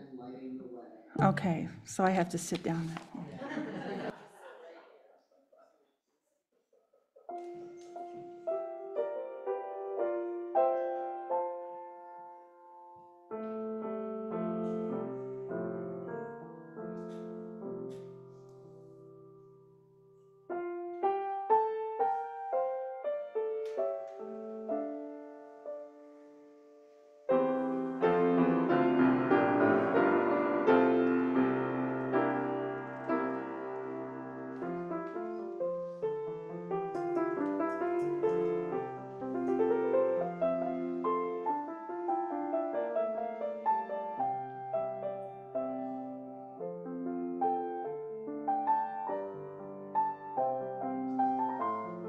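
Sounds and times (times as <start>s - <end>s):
grand piano playing: 0.0s - 4.1s, 7.3s - 52.0s.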